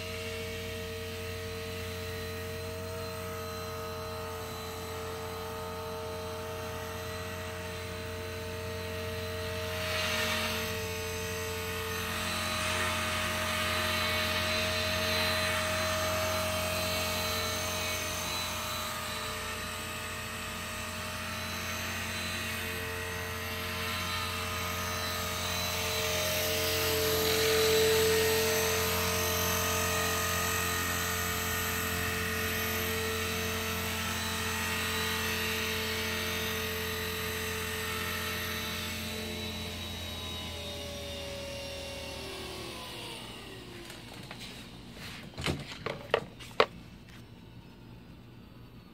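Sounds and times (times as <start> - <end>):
rc helicopter whine: 0.0 - 48.9.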